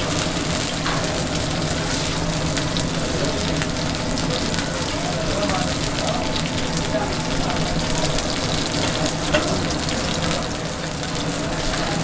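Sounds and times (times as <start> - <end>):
pancake sizzling in oil: 0.0 - 12.0.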